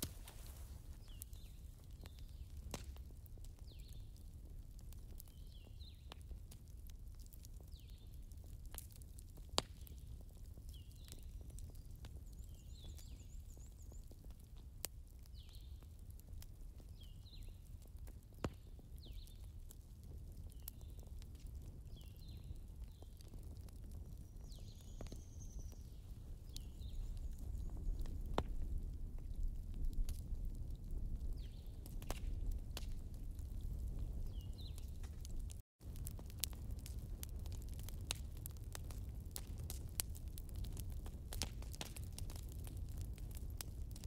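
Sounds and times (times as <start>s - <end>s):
fire crackling and popping: 0.0s - 44.0s.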